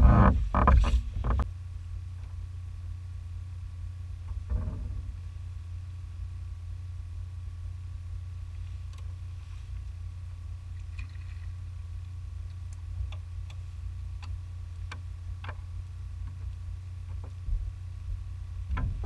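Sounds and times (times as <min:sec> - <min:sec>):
boat engine low rumble: 0:00.0 - 0:19.0
faint thin whine: 0:00.0 - 0:19.0.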